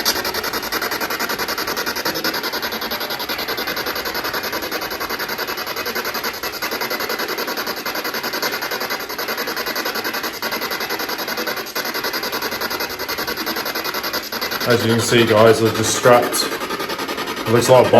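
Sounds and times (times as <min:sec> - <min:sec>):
chopped radio static: 0:00.0 - 0:17.9.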